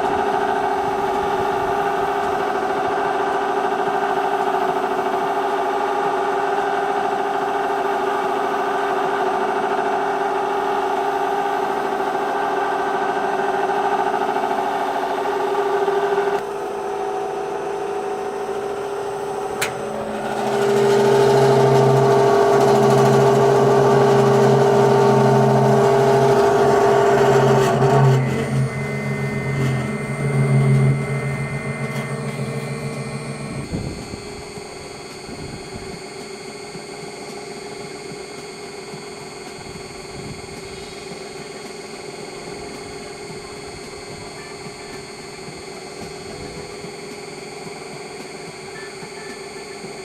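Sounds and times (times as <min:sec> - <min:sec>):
mill motor hum: 0:00.0 - 0:50.0.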